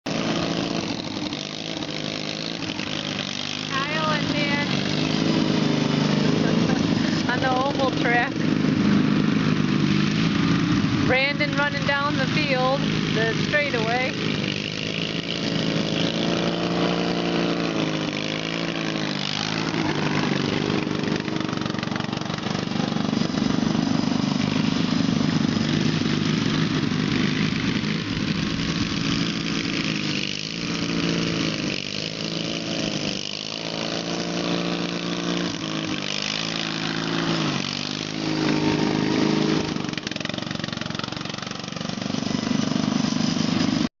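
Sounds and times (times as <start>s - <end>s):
racing lawn mower engines: 0.0s - 43.9s.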